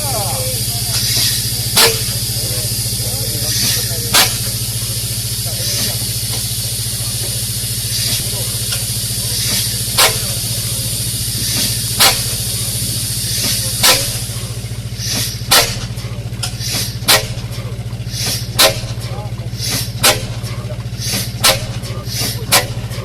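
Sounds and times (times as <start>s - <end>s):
old engine running slowly: 0.0s - 23.0s.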